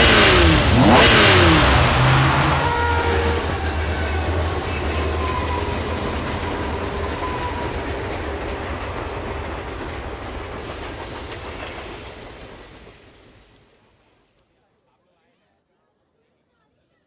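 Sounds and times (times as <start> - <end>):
freight train wheels clattering: 0.0 - 13.8.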